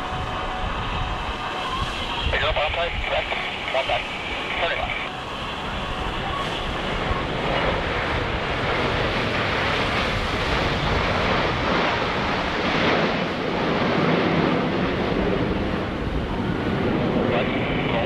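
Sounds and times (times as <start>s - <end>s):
jet planes flying overhead: 0.0s - 18.0s.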